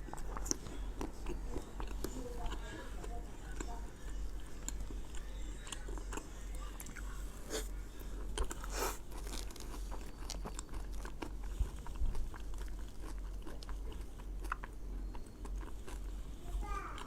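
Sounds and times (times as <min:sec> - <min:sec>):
person chewing cake: 0:00.0 - 0:17.0
steady low hum: 0:00.0 - 0:17.0.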